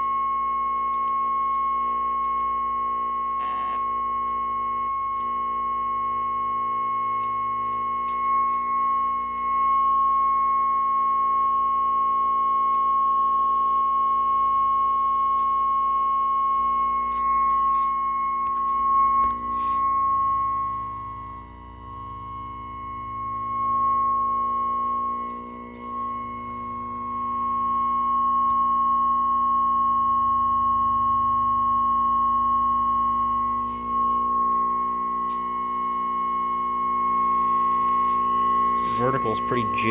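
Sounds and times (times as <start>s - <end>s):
low hum from speaker: 0.0s - 39.9s
steady test tone: 0.0s - 39.9s.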